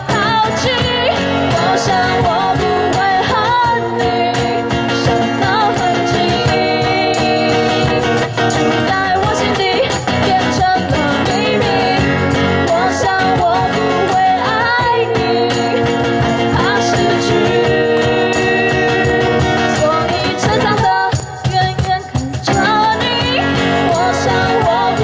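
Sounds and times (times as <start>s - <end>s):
cajon beat: 0.0s - 25.0s
strummed acoustic guitar: 0.0s - 25.0s
women singing: 0.0s - 25.0s.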